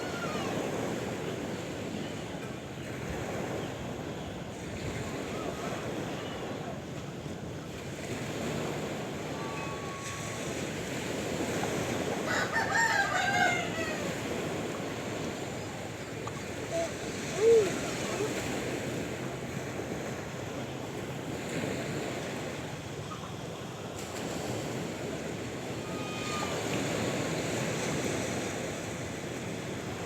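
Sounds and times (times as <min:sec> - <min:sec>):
sea waves washing on shore: 0:00.0 - 0:30.0.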